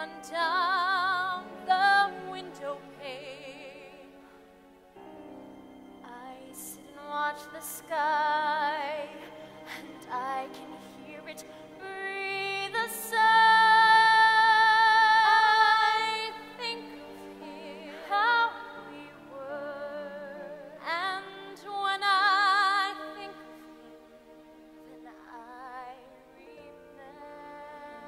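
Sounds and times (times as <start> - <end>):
woman singing a ballad: 0.0 - 4.1, 6.1 - 23.4, 24.9 - 28.0
soft instrumental accompaniment: 0.0 - 28.0.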